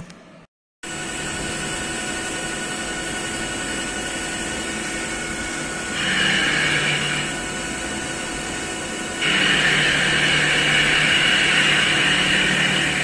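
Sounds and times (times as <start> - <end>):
cutting and coolant noise: 0.8 - 13.0
milling machine spindle whine: 0.9 - 13.0
coolant hiss: 1.2 - 13.0.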